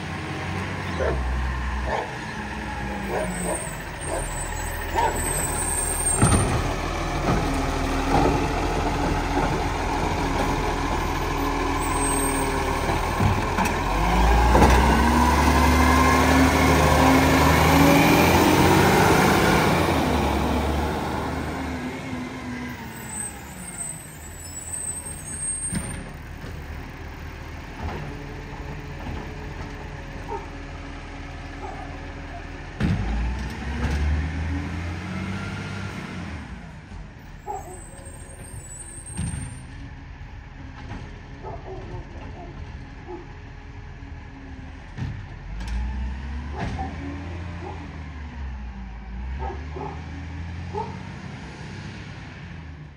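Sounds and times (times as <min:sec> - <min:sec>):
garbage truck diesel engine: 0:00.0 - 0:52.9.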